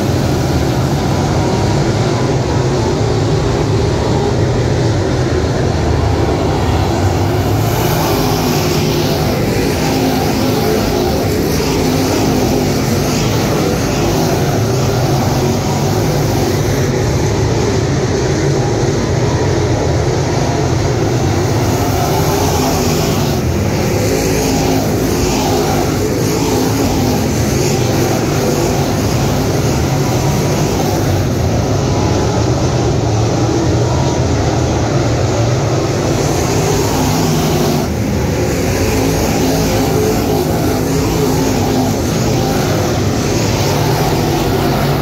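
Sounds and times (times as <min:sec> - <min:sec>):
race car engines droning: 0:00.0 - 0:45.0.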